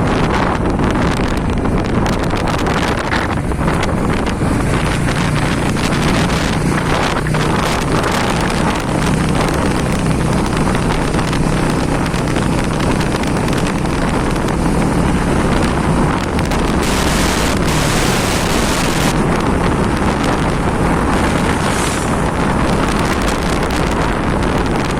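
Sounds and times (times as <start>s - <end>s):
motorcycle engine hum: 0.0s - 24.9s
wind rushing over microphone: 0.0s - 24.9s.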